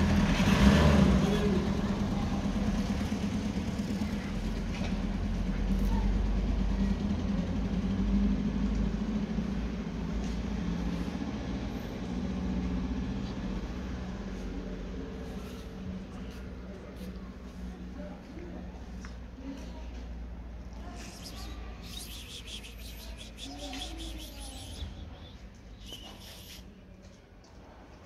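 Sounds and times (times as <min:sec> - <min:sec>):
vehicle engine humming: 0:00.0 - 0:26.8.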